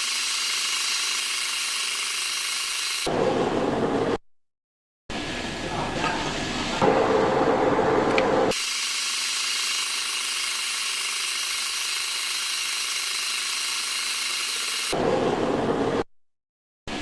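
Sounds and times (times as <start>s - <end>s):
metal lathe machining: 0.0s - 4.1s, 5.4s - 15.9s.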